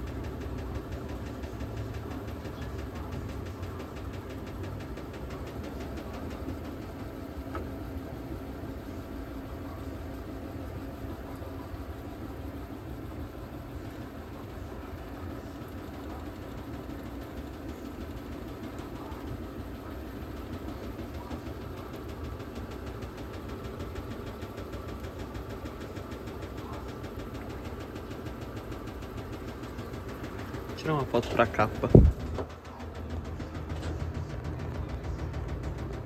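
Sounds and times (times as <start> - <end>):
fast ticking rattle: 0.0 - 11.1, 11.7 - 36.0
washing machine motor hum: 0.0 - 36.0.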